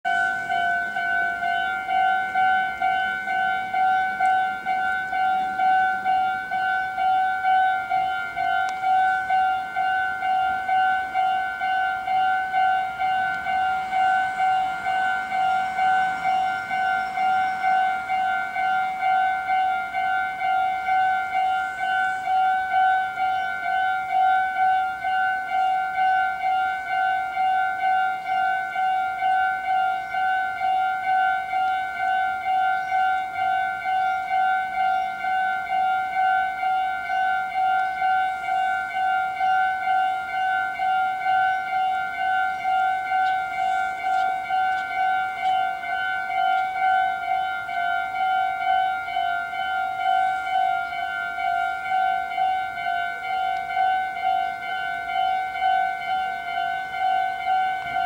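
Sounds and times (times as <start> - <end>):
level crossing warning bell: 0.0 - 58.0.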